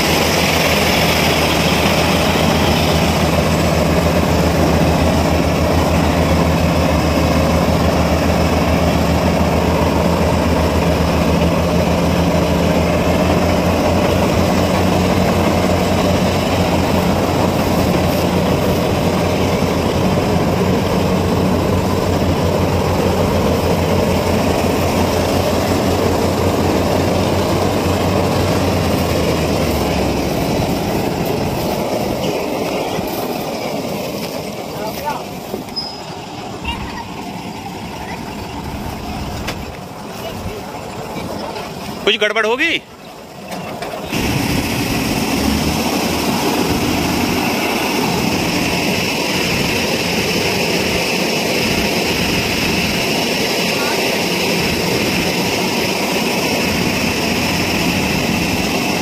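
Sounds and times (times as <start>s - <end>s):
auger pouring grain: 0.0s - 36.5s, 44.0s - 59.0s
combine harvester drone: 0.0s - 59.0s
farm machinery mechanical din: 0.0s - 59.0s
low engine hum: 0.0s - 59.0s.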